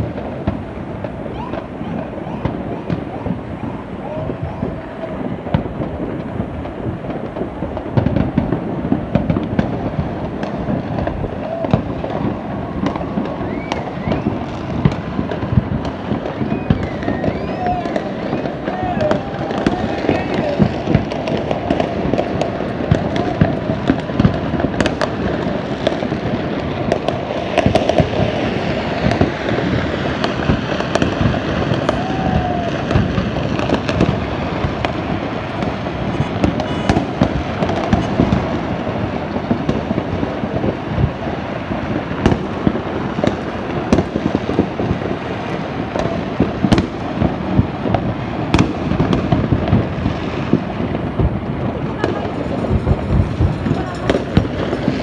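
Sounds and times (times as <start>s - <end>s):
sharp firecracker cracks: 0.0s - 41.2s, 41.8s - 55.0s
fireworks pops and bangs: 0.0s - 55.0s.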